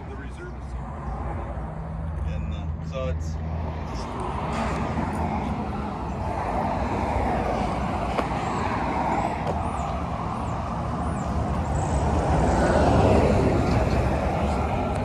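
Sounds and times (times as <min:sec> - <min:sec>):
road traffic hum: 0:00.0 - 0:15.0
vehicle passing: 0:00.0 - 0:15.0.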